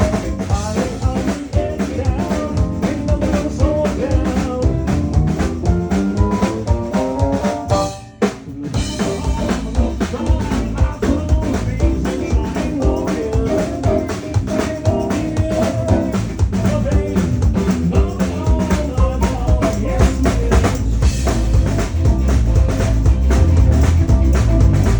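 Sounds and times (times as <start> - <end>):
drum kit: 0.0 - 24.9
live band playing upbeat song: 0.0 - 24.9.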